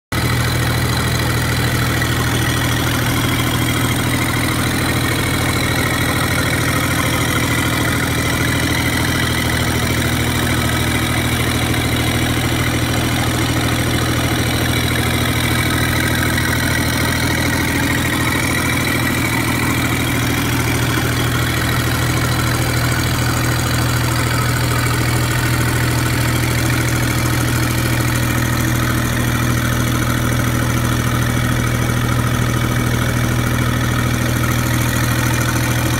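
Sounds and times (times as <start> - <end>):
diesel generator running: 0.1 - 35.9.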